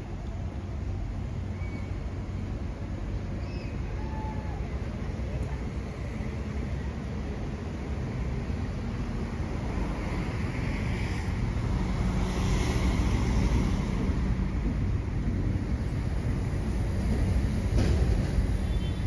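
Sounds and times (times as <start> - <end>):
low rumble of vehicles: 0.0 - 19.0.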